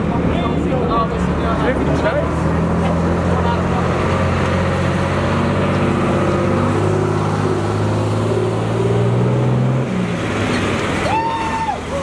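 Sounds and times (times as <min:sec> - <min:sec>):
fire engines driving past: 0:00.0 - 0:12.0.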